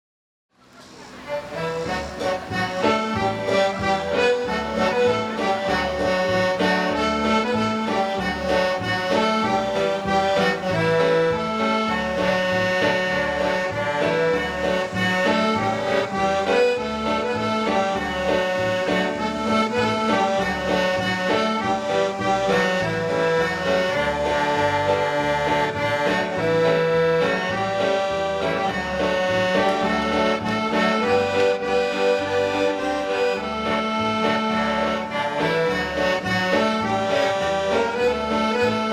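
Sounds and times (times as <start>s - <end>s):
pulsing bass line: 1.9s - 38.9s.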